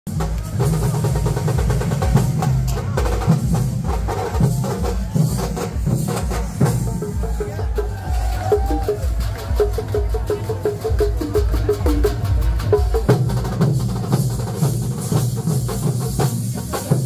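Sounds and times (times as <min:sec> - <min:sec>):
deep drums beating: 0:00.1 - 0:17.0.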